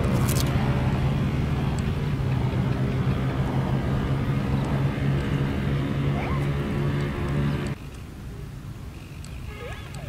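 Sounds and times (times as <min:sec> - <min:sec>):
low engine-like hum: 0:00.0 - 0:10.0.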